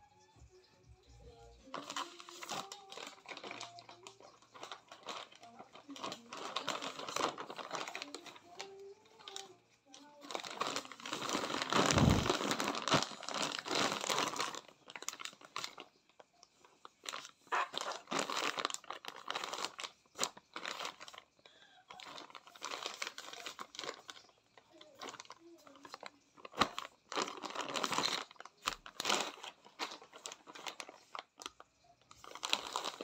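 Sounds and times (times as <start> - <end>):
plastic bag crinkling: 1.4 - 33.0.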